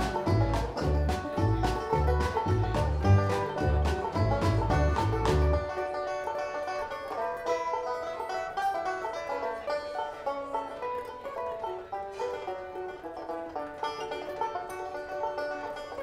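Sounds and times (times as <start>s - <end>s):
banjo picking bright notes: 0.0s - 16.0s
plucked-string accompaniment: 0.0s - 16.0s.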